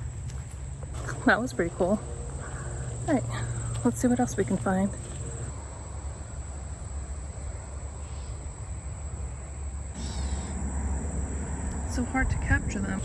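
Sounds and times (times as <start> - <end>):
low steady rumble: 0.0 - 7.2, 9.6 - 13.0
insect chorus drone: 0.0 - 13.0.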